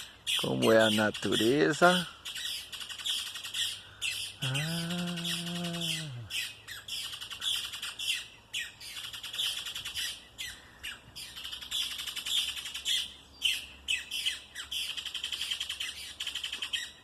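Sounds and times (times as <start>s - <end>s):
woodpeckers calling: 0.0s - 17.0s.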